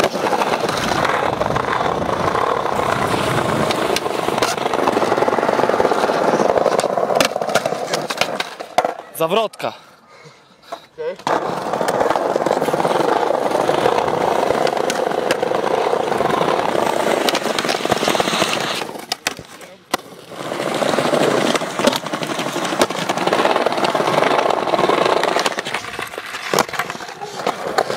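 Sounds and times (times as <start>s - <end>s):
skateboard clacking: 0.0s - 9.2s, 10.6s - 27.9s
skateboard wheels rolling on paving: 0.0s - 9.7s, 10.6s - 27.9s.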